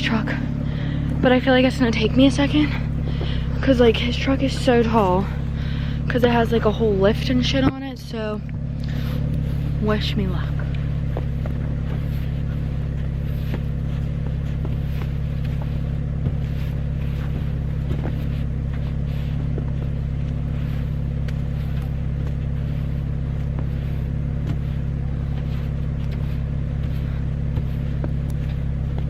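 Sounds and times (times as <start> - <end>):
car engine idling: 0.0 - 29.0
brush sweeping snow off car: 1.3 - 29.0.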